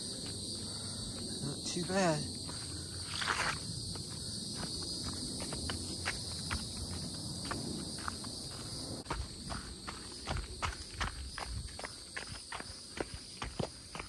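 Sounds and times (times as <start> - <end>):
footsteps on dirt trail: 0.0 - 14.0
insects droning: 0.0 - 14.0.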